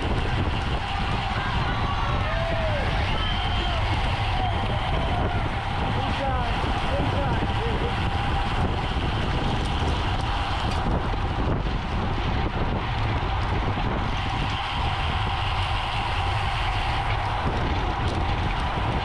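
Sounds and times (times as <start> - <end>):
bicycle tyre and road noise: 0.0 - 19.0
faint steady whine: 0.0 - 19.0
wind buffeting microphone: 0.0 - 19.0.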